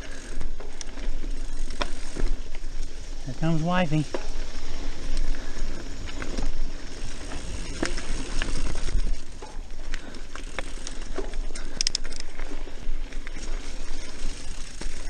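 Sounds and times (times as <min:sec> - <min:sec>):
bike rattling over bumps: 0:00.0 - 0:15.0
bike tyres rolling on dirt: 0:00.0 - 0:15.0.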